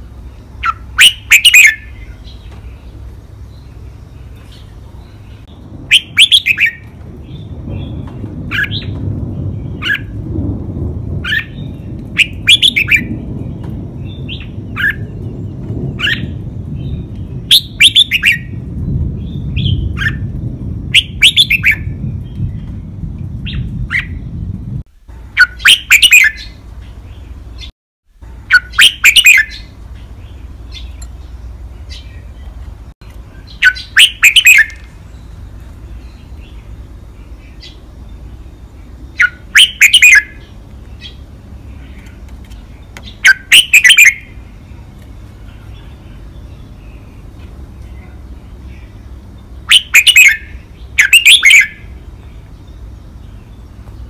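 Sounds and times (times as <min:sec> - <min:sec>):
bulbul singing: 0:00.0 - 0:10.2, 0:11.1 - 0:24.6, 0:25.2 - 0:27.7, 0:28.3 - 0:54.0.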